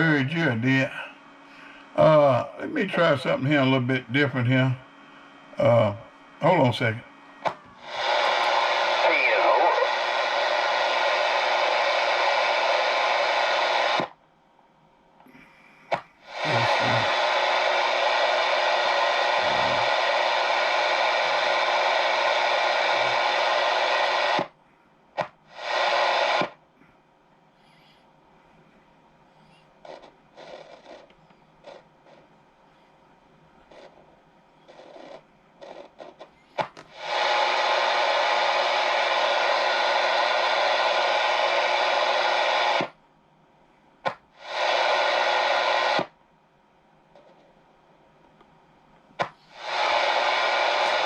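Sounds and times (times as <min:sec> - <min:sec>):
radio static hiss: 0:00.0 - 0:14.2, 0:15.2 - 0:26.8, 0:27.6 - 0:43.1, 0:44.0 - 0:46.2, 0:47.0 - 0:51.0.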